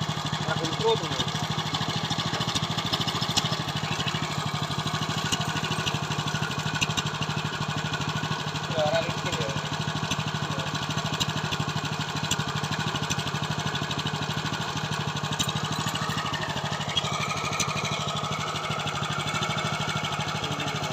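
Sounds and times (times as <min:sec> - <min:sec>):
small tiller engine running: 0:00.0 - 0:20.9.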